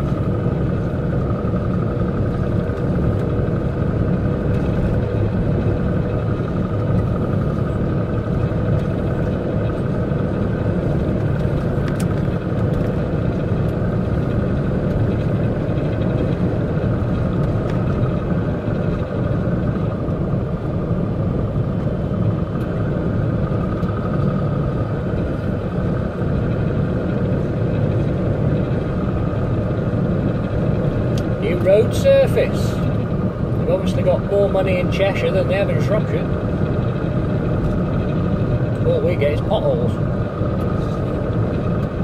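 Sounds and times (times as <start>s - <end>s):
diesel truck engine drone: 0.0s - 42.0s.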